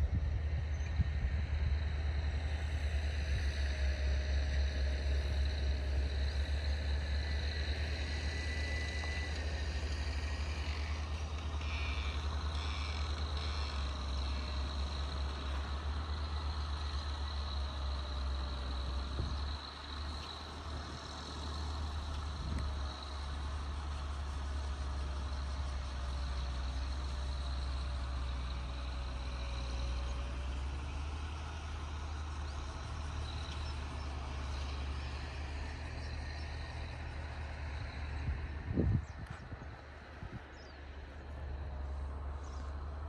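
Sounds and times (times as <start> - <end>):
distant tractor engine droning: 0.0 - 43.0.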